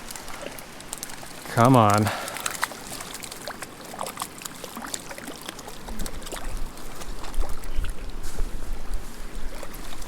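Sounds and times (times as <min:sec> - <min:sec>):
creek trickling and splashing: 0:00.0 - 0:10.0.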